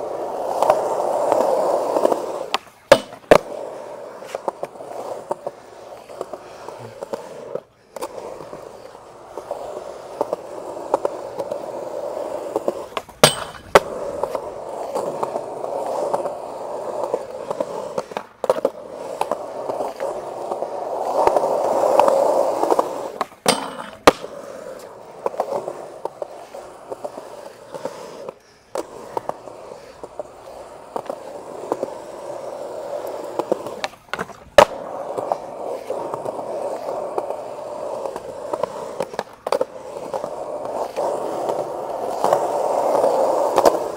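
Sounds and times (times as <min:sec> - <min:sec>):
skateboard clacking on concrete: 0:00.0 - 0:43.9
skateboard wheels rolling on concrete: 0:00.0 - 0:43.9.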